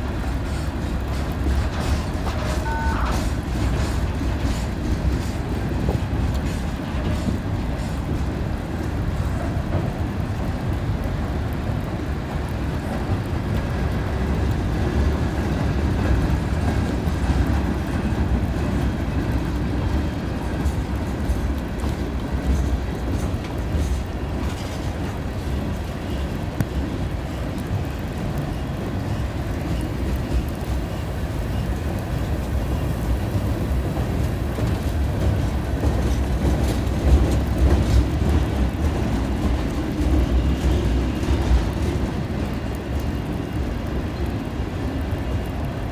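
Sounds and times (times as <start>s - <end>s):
train wheels rumbling on bridge: 0.0s - 45.9s.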